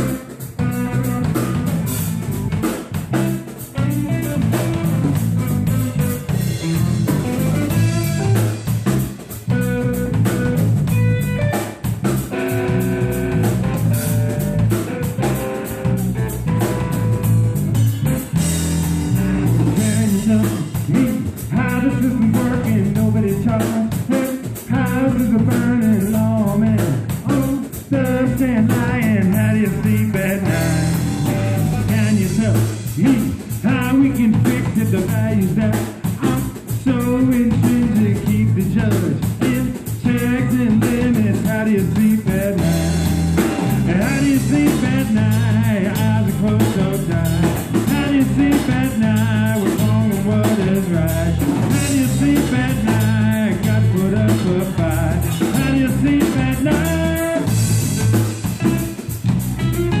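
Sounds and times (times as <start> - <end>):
drum kit steady beat: 0.0 - 60.0
electric bass: 0.0 - 60.0
electric guitar: 0.0 - 60.0.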